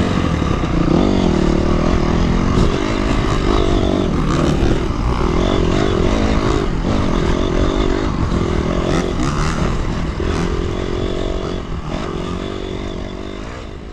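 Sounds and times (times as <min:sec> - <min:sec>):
dirt bike engine revving: 0:00.0 - 0:13.9.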